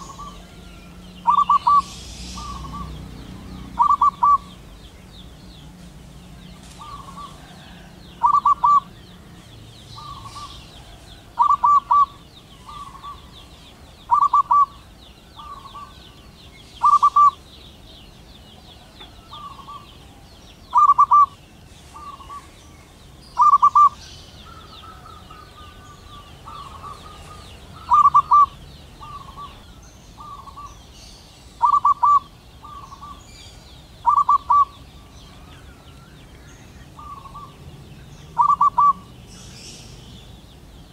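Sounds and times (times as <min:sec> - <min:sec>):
dove cooing song: 0:00.0 - 0:40.9.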